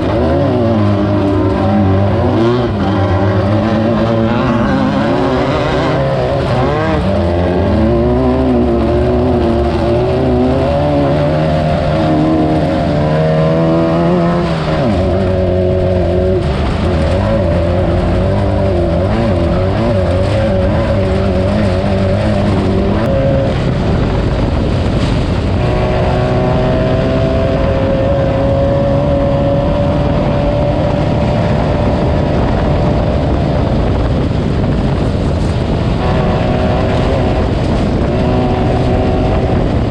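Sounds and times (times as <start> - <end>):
race car engine revving: 0.0 - 39.9
rattle and road noise: 0.0 - 39.9.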